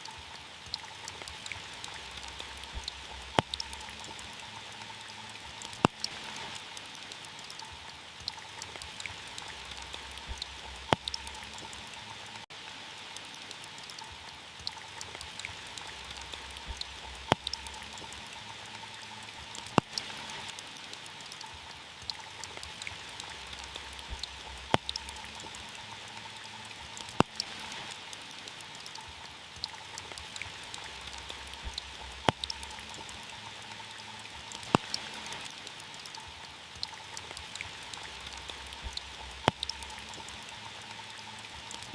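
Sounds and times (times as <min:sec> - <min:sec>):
rain on a car roof: 0:00.0 - 0:41.9.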